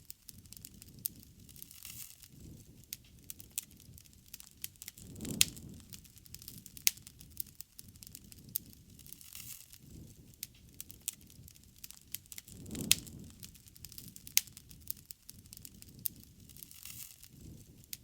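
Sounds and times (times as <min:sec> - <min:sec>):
bonfire crackling and popping: 0:00.0 - 0:18.0
low rush of flame: 0:00.0 - 0:18.0.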